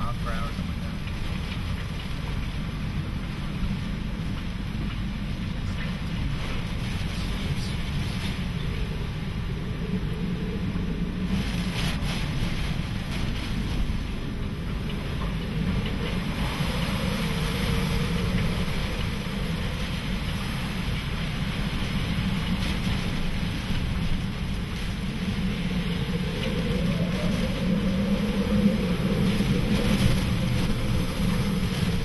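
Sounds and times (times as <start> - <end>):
driving rain: 0.0 - 32.0
strong wind blowing: 0.0 - 32.0
wind buffeting microphone: 0.0 - 32.0.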